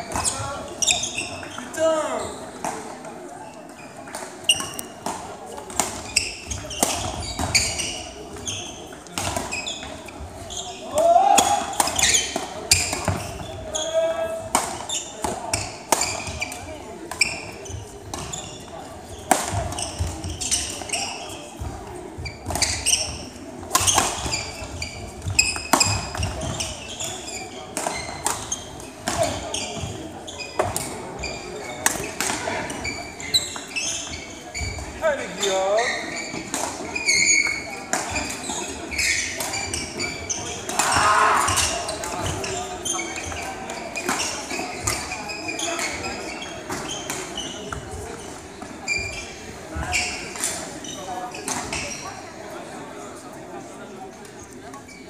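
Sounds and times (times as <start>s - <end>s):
sneakers squeaking on court floor: 0.0s - 52.4s, 54.6s - 55.0s
background chatter: 0.0s - 55.0s.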